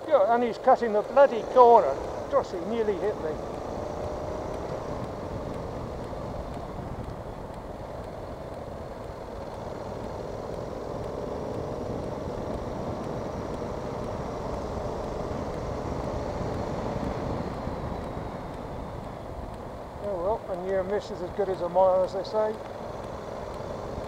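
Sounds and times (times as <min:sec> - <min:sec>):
motorcycle engine running: 0:00.0 - 0:24.0
wind noise on microphone: 0:01.3 - 0:23.0.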